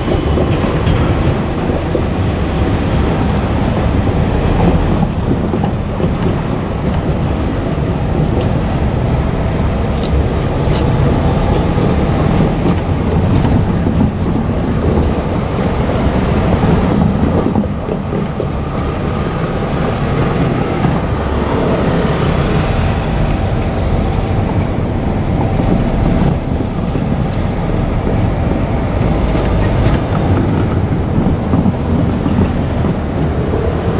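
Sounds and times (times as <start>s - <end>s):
diesel railcars rumbling: 0.0s - 33.9s.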